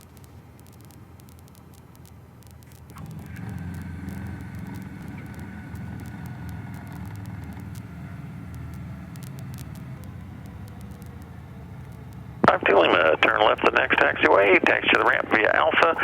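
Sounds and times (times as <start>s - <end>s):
small plane engine drone: 0.0s - 16.0s.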